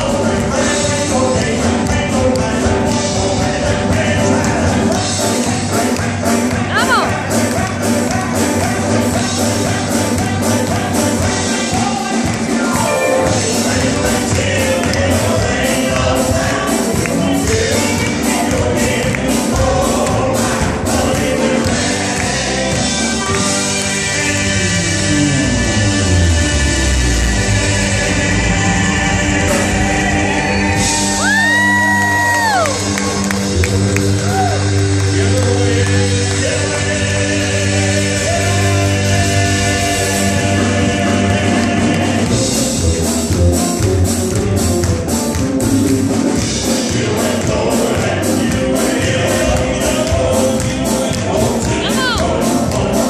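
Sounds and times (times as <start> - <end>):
male vocal quartet singing: 0.0 - 43.6, 46.0 - 53.0
band playing steady beat: 0.0 - 53.0.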